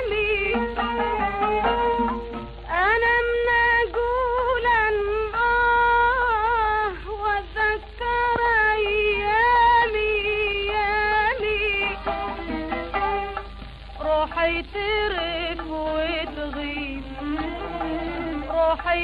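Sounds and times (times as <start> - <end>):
woman singing ornamented song: 0.0 - 13.4, 14.0 - 19.0.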